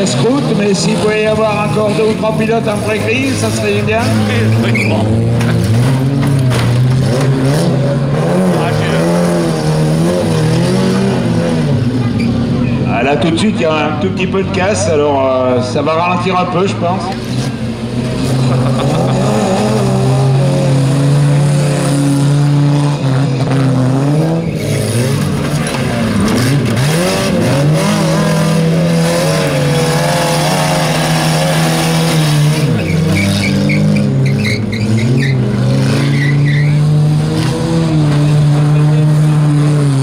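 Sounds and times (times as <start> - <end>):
stock car engines revving: 0.0 - 40.0.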